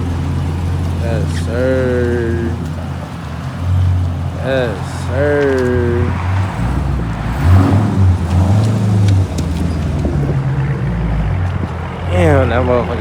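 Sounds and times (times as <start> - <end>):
deep car engine drone: 0.0 - 13.0.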